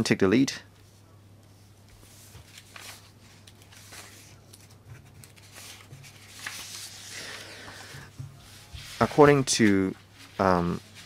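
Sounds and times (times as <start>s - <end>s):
papers rustling: 1.7s - 11.0s.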